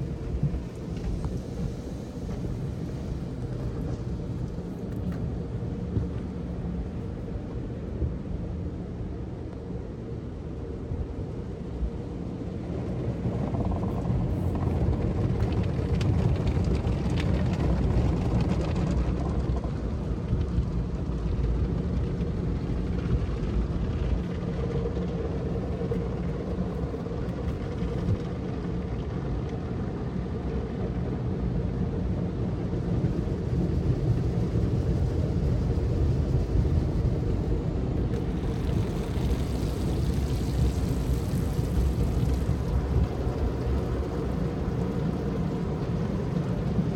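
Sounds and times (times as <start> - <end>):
car wash machinery rumble: 0.0 - 46.9.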